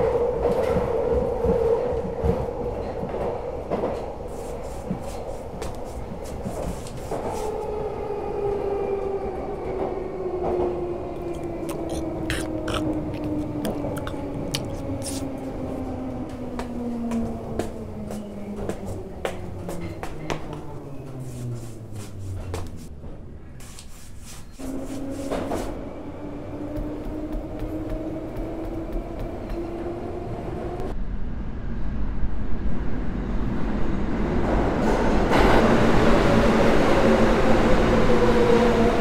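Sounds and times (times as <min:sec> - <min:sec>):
subway train running: 0:00.0 - 0:39.0.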